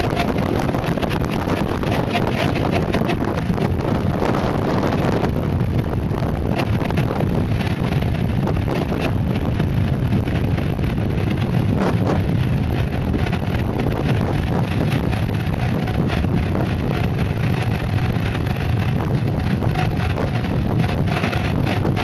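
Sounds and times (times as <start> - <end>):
tyres rolling on asphalt: 0.0 - 22.0
wind noise on microphone: 0.0 - 22.0.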